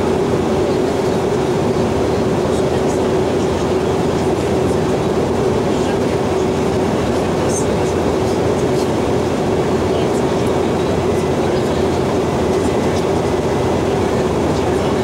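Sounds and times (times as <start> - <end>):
airliner cabin engine rumble: 0.0 - 15.0
steady hum: 0.0 - 15.0.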